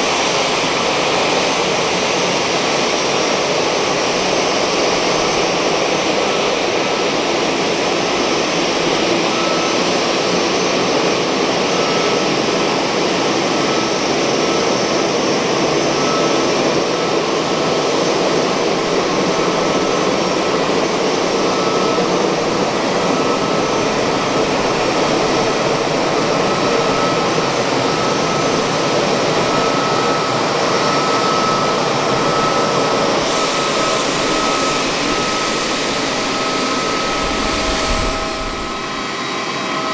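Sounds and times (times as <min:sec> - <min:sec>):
jet engine roar with high whine: 0:00.0 - 0:39.9.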